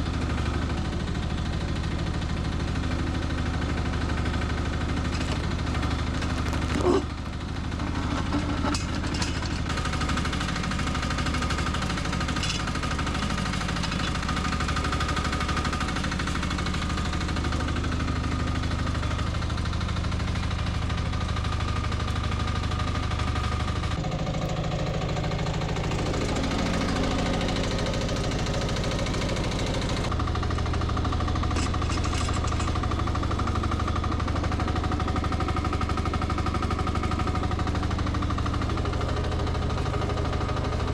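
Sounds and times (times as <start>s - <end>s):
excavator engine running: 0.0s - 40.9s.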